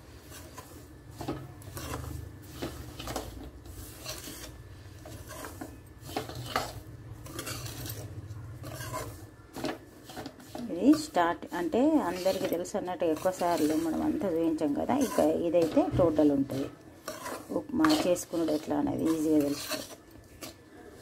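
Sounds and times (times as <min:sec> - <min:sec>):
spatula scraping grainy semolina: 0:00.0 - 0:21.0.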